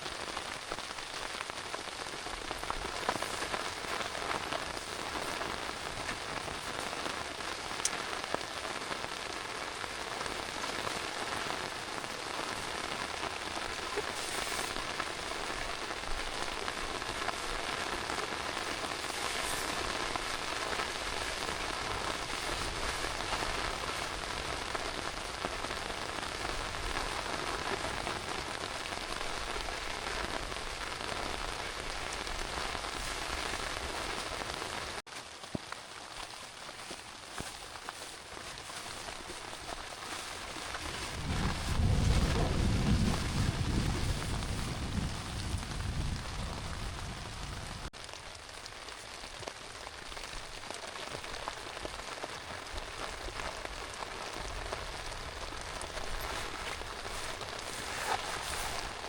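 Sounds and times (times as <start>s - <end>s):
sharp raindrop ticks: 0.0s - 57.6s
heavy rain falling: 0.0s - 59.0s.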